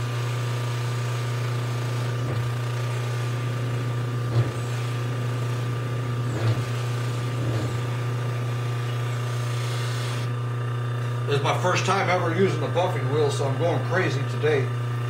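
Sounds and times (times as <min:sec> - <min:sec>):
bench buffer humming: 0:00.0 - 0:15.0.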